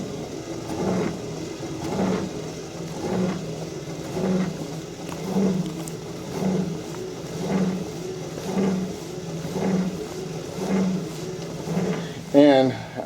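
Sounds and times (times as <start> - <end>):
pedal grinding and vibrating: 0.0 - 13.0.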